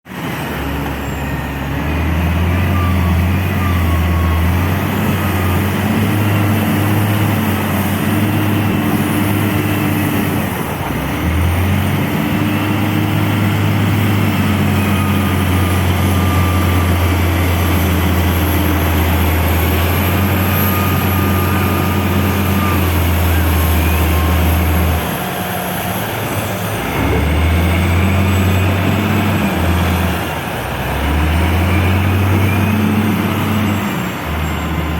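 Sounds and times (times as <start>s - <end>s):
heavy diesel engines running: 0.1s - 34.9s.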